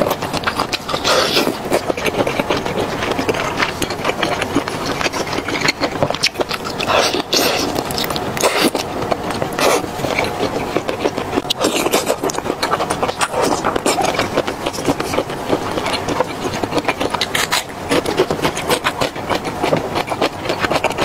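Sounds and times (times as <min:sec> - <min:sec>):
wet chewing and squelches: 0:00.0 - 0:21.0.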